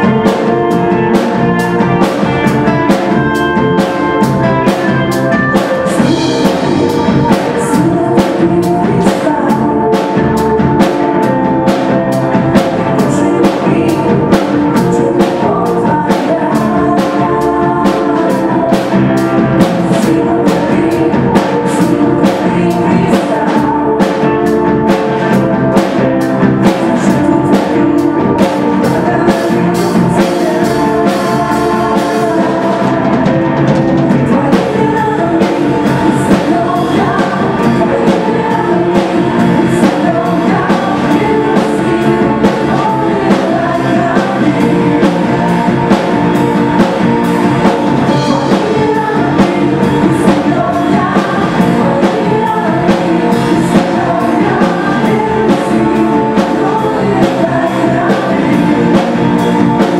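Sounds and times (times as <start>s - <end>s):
bass: 0.0s - 59.9s
drum kit beat: 0.0s - 59.9s
electric guitar: 0.0s - 59.9s
keyboards: 0.0s - 59.9s
women singing: 0.0s - 59.9s.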